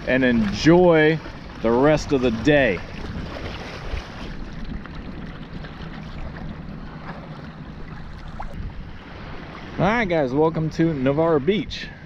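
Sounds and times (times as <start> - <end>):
waves washing around boat: 0.0 - 12.0
wind on microphone: 1.5 - 12.0.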